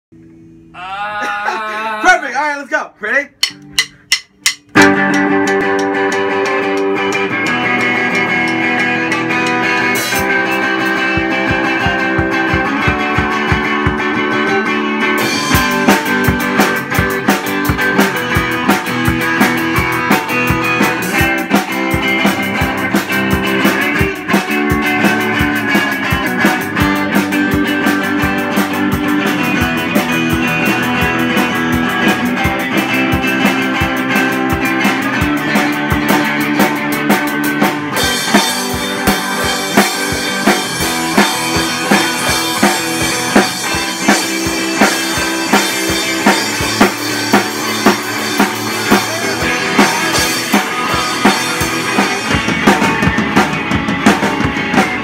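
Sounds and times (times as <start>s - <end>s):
drum kit playing: 1.8s - 55.0s
electric guitars playing riff: 3.0s - 55.0s.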